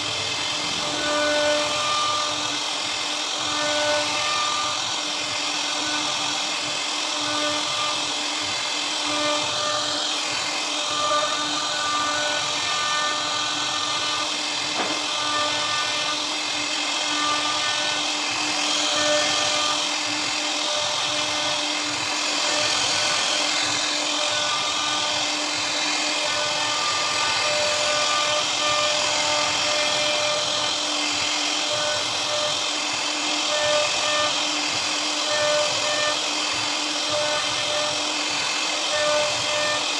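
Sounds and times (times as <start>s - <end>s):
hiss of bit cutting wood: 0.0s - 39.9s
router spindle whine: 0.0s - 39.9s.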